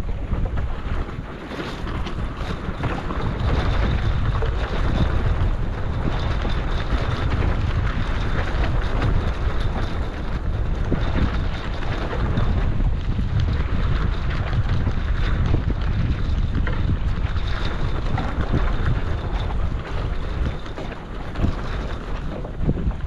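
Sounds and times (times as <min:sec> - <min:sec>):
water slapping boat hull: 0:00.0 - 0:23.0
wind buffeting microphone: 0:00.0 - 0:23.0.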